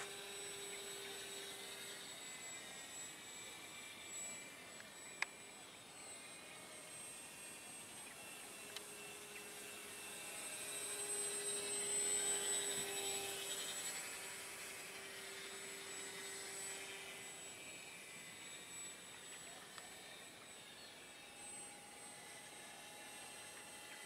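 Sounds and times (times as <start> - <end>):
electric motor and propeller whining: 0.0 - 24.0.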